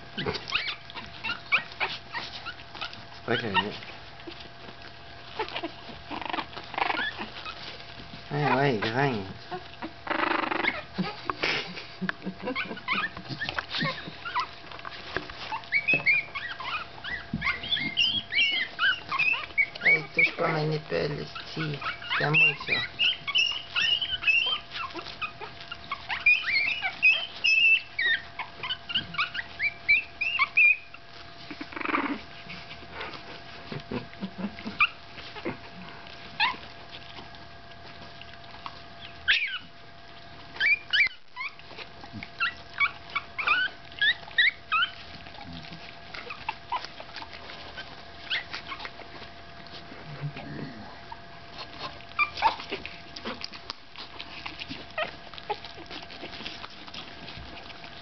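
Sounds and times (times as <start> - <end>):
puppies squeaking and whimpering: 0.0 - 58.0.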